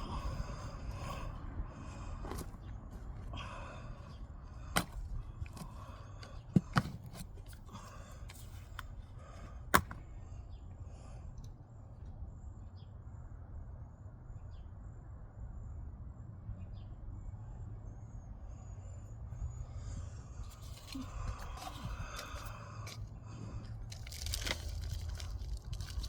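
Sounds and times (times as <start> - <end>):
low outdoor background: 0.0 - 26.0.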